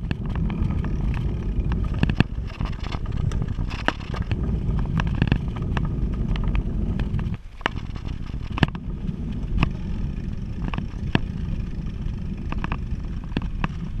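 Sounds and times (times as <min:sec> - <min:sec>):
bike rattling over bumps: 0:00.0 - 0:14.0
wind on microphone: 0:00.0 - 0:14.0.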